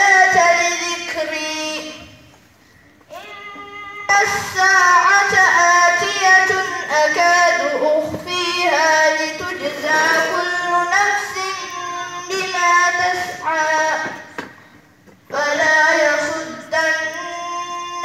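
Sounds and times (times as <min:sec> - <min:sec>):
melodic recitation through microphone: 0:00.0 - 0:18.0.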